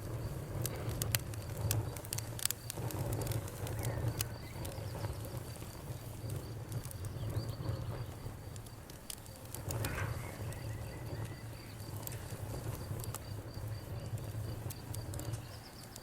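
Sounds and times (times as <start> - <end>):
bonfire crackling: 0.0 - 16.0
cricket chirping: 0.0 - 16.0.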